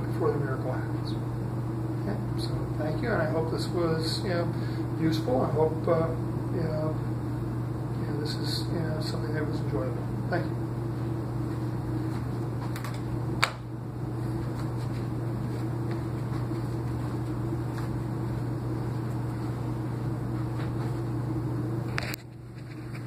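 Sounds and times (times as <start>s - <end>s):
low fan hum: 0.0s - 23.0s.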